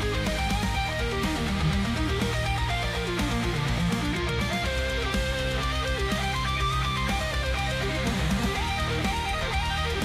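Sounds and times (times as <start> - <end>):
bass guitar: 0.0 - 10.0
electric guitar music: 0.0 - 10.0.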